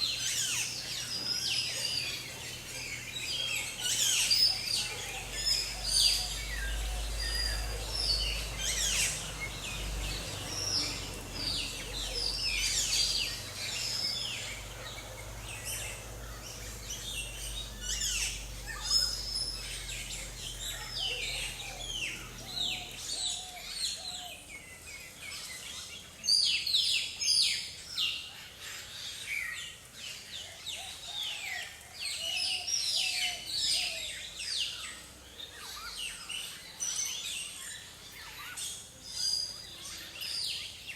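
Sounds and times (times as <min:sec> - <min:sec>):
forest birds chirping: 0:00.0 - 0:40.9.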